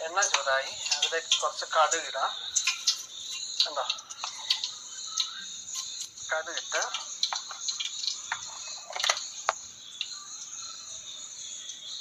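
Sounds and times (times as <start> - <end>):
seeds popping in hot oil: 0.0 - 10.9
crickets chirping: 0.0 - 12.0.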